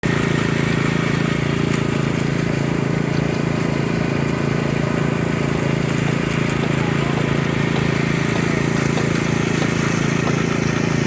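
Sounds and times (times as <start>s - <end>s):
power trowel engine humming: 0.0s - 11.0s.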